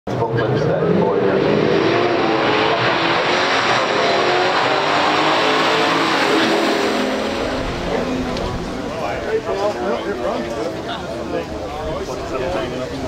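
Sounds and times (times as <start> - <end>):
muscle car engines accelerating: 0.1 - 13.0.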